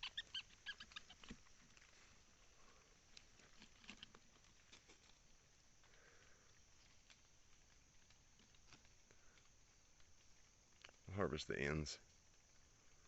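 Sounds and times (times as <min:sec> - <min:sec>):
faint crackling and clicks: 0:00.2 - 0:11.1.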